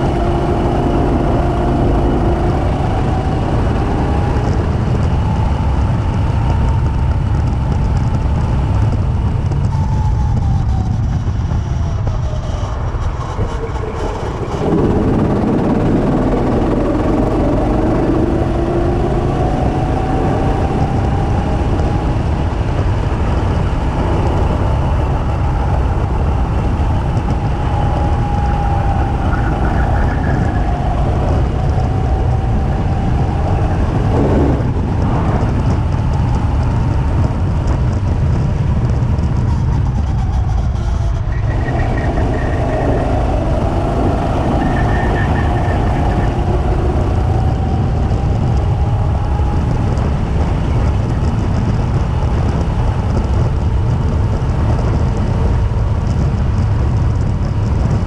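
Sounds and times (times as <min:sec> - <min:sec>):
go-kart engine running: 0:00.0 - 0:58.0
wind rush on camera: 0:00.0 - 0:58.0.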